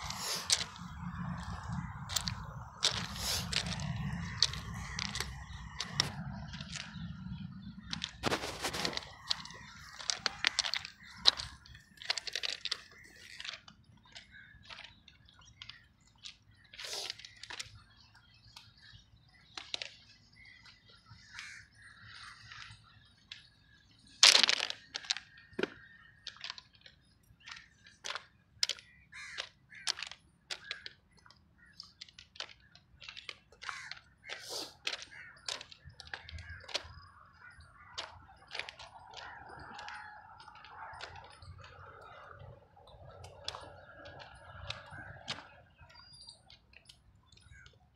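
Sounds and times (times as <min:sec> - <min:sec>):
footsteps crunching on stones: 0:00.0 - 0:18.0, 0:24.2 - 0:47.8.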